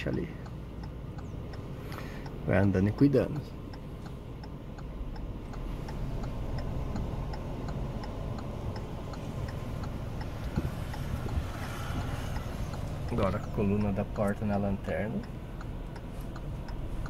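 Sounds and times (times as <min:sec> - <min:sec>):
car engine humming: 0:00.0 - 0:17.0
turn signal ticking: 0:00.0 - 0:17.0.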